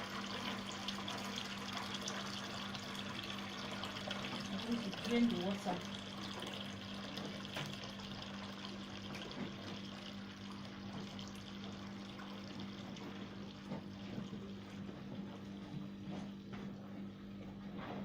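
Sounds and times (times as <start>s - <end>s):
water draining from washing machine: 0.0s - 17.0s.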